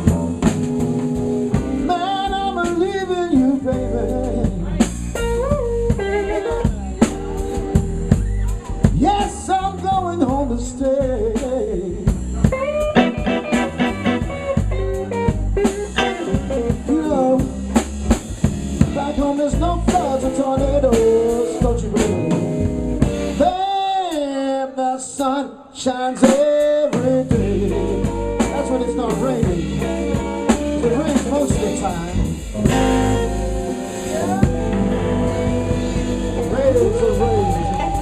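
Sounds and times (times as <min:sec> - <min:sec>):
electric guitar lead: 0:00.0 - 0:11.2, 0:11.8 - 0:23.5, 0:26.9 - 0:38.0
drum kit: 0:00.0 - 0:24.5, 0:26.2 - 0:38.0
bass guitar: 0:00.0 - 0:25.4, 0:26.2 - 0:38.0.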